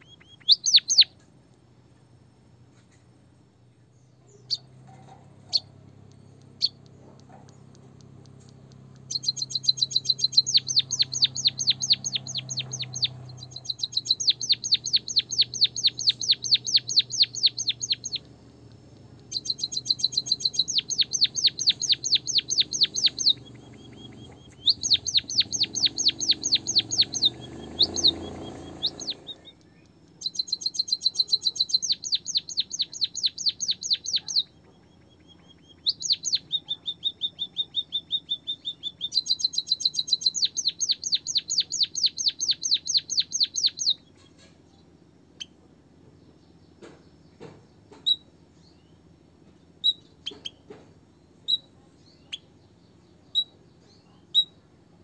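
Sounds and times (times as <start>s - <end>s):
small bird chirping: 0.0s - 55.0s.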